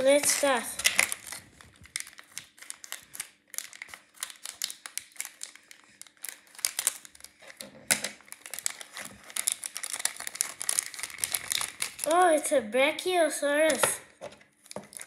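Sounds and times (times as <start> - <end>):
paper packaging crinkling and tearing: 0.0 - 12.5, 14.5 - 15.0.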